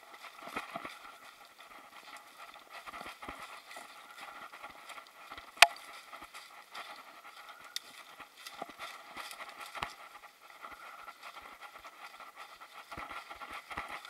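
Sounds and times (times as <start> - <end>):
footsteps crunching through dry leaves: 0.0 - 14.0.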